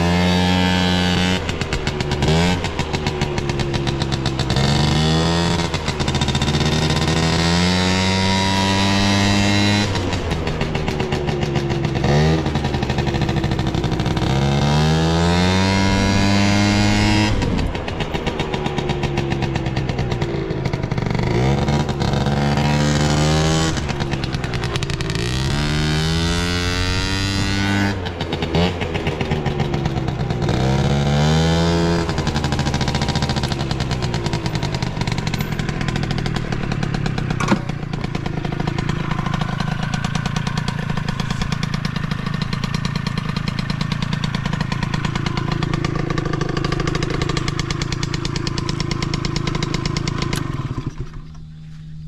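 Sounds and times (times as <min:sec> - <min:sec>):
two-stroke scooter engine revving: 0:00.0 - 0:52.0.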